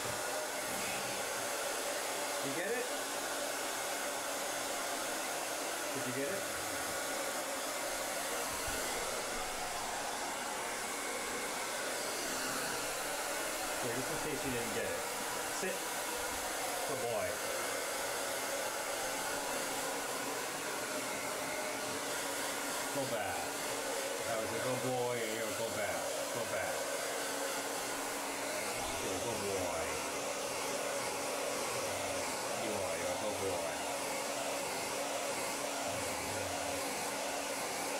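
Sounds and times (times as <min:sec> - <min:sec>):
hair dryer blowing: 0:00.0 - 0:37.9.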